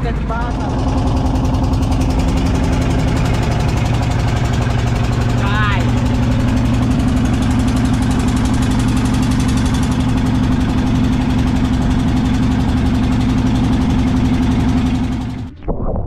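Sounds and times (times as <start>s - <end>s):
boat engine chugging: 0.0s - 15.5s.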